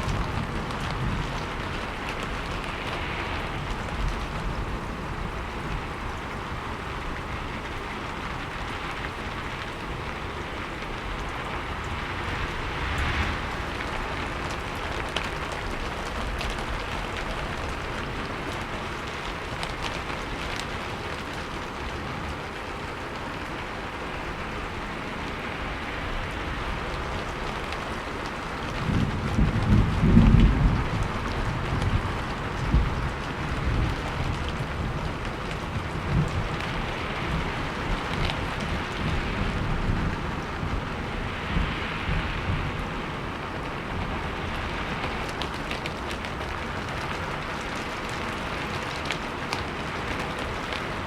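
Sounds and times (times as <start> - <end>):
deep rumble of thunder: 0.0 - 21.8, 24.2 - 51.0
steady rain falling: 0.0 - 51.0.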